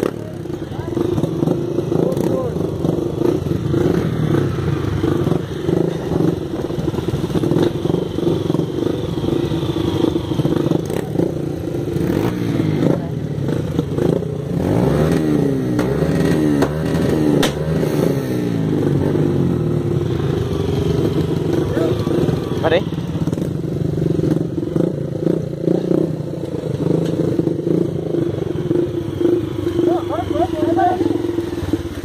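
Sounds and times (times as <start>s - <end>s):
dirt bike engines idling: 0.0s - 32.0s
engine revving: 0.0s - 32.0s.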